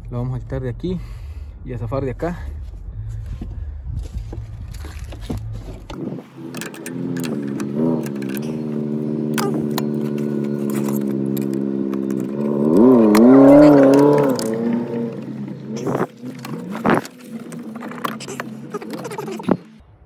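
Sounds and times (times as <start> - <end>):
vehicle engine running: 0.0 - 19.8.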